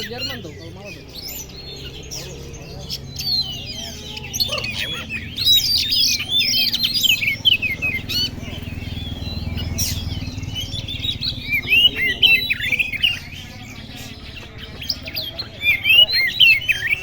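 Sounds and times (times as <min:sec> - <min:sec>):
songbird whistling and chattering: 0:00.0 - 0:17.0.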